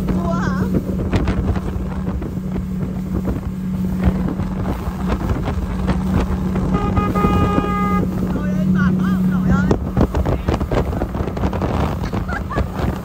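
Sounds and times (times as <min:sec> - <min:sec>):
hull knocking on waves: 0:00.0 - 0:13.0
motorboat engine drone: 0:00.0 - 0:13.0
wind on microphone: 0:00.0 - 0:13.0.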